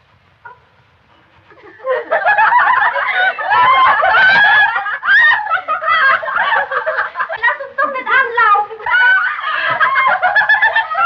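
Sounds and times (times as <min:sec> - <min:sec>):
women shrieking with laughter: 0:01.6 - 0:11.0.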